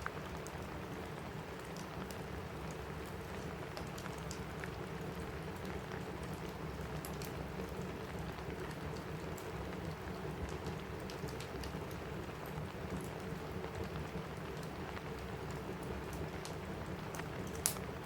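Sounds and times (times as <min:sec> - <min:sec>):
rain on a roof: 0:00.0 - 0:18.0
wood fire crackling: 0:00.0 - 0:18.0.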